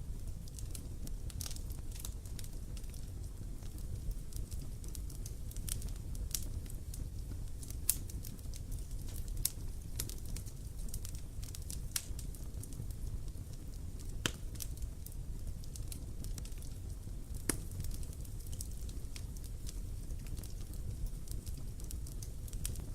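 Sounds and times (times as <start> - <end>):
burning wood crackling and popping: 0.0 - 22.9
low rumble of flames: 0.0 - 22.9.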